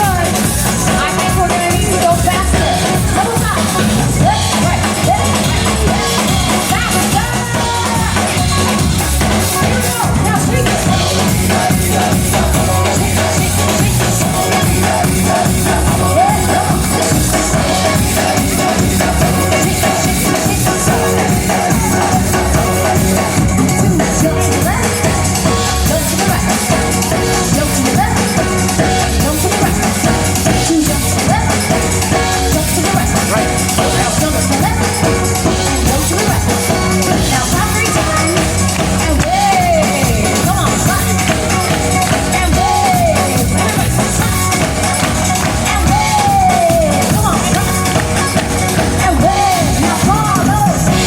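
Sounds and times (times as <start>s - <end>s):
steady drum beat: 0.0s - 51.0s.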